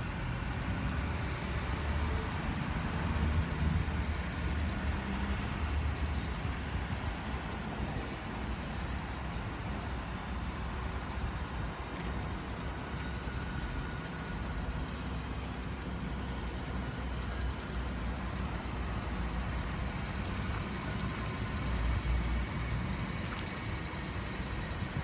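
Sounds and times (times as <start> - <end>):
small truck engine idling: 0.0 - 25.0.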